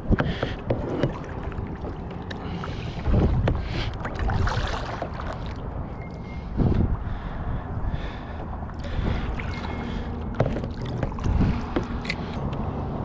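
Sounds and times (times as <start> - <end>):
water splashing around a kayak: 0.0 - 7.0, 7.9 - 13.0
wind buffeting microphone: 0.0 - 13.0.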